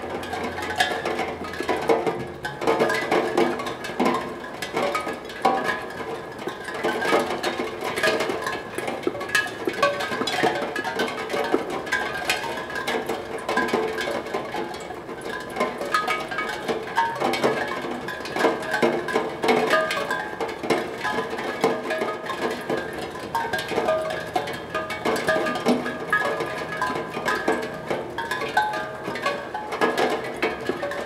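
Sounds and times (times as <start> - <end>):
raindrops pattering: 0.0 - 31.0.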